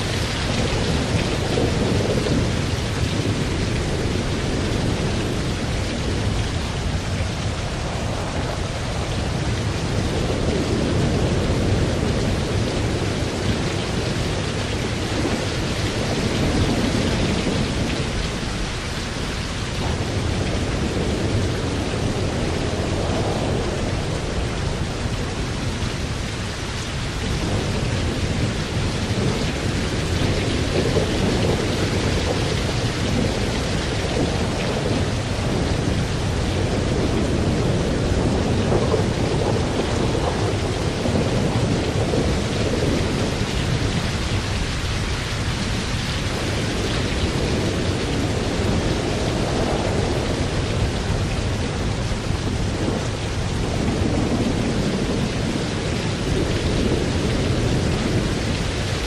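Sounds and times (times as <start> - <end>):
steady rain: 0.0 - 59.0
thunder rumbling low: 0.0 - 59.0.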